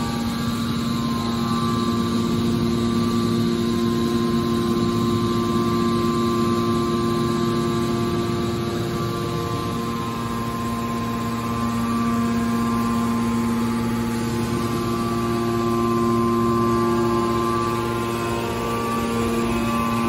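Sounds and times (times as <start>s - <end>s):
hydraulic pump motor humming: 0.0s - 20.0s.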